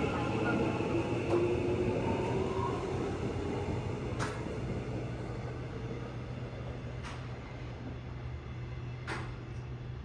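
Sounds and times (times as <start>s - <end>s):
train running noise: 0.0s - 10.0s.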